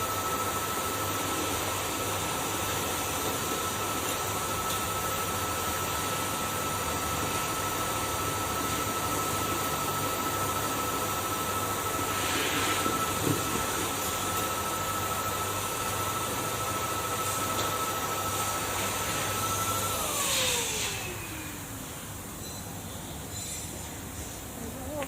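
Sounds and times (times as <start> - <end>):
vacuum cleaner running: 0.0 - 22.4.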